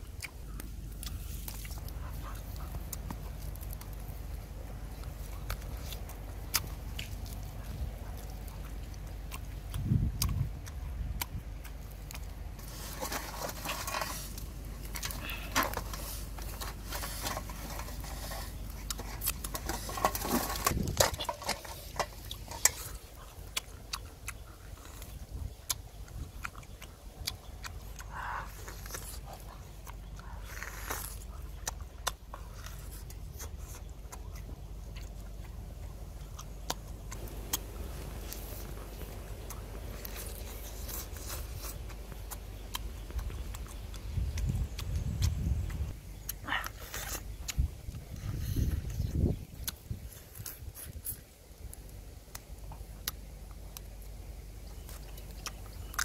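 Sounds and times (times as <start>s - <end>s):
person chewing and biting meat: 0.0s - 56.0s.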